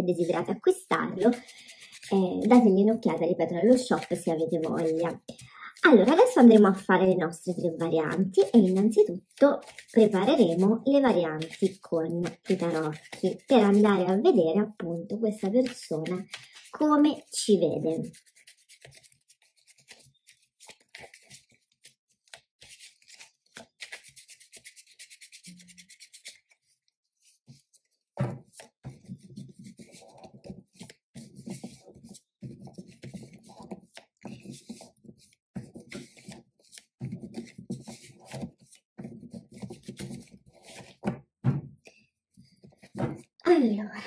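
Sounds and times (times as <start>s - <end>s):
cards being shuffled: 0.2s - 2.8s, 3.7s - 6.8s, 8.1s - 14.1s, 15.4s - 17.3s, 17.9s - 41.1s.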